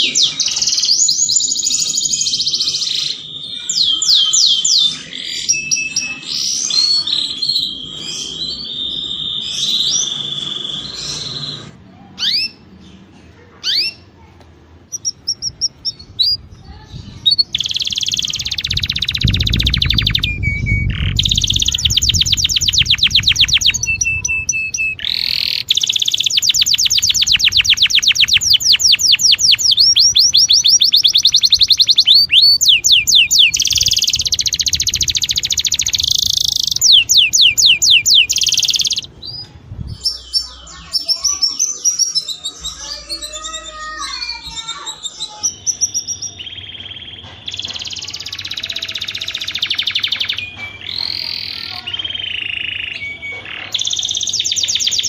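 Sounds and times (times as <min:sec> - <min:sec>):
canary singing trills: 0:00.0 - 0:14.2, 0:14.9 - 0:55.0.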